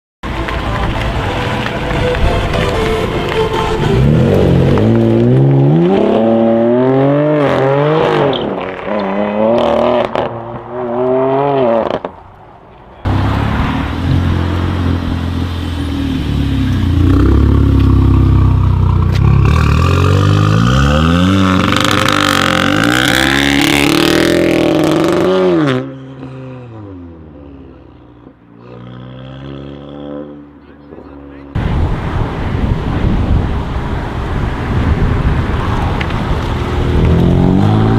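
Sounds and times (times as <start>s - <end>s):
car engines revving hard: 3.0s - 12.2s, 13.0s - 37.9s.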